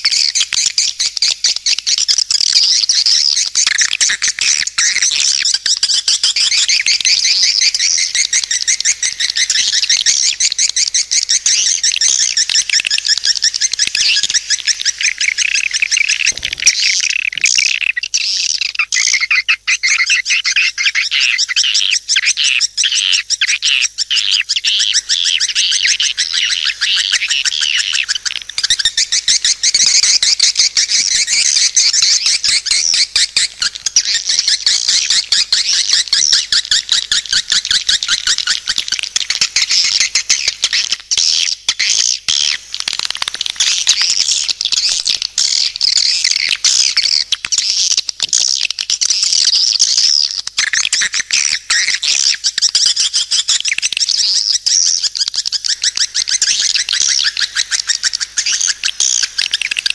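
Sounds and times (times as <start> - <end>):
birds twittering chirps: 0.0 - 59.9.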